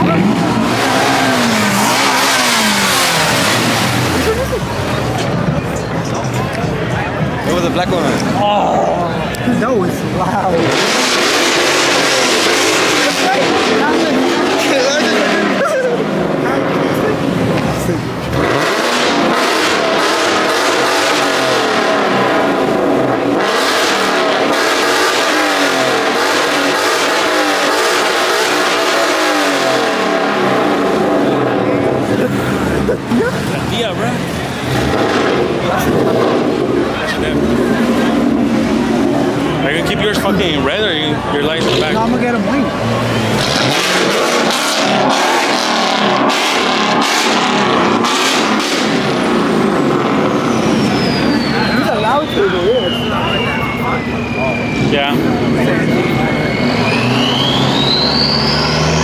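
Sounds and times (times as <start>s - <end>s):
car engines revving: 0.0s - 59.0s
loud rushing exhaust: 0.0s - 59.0s.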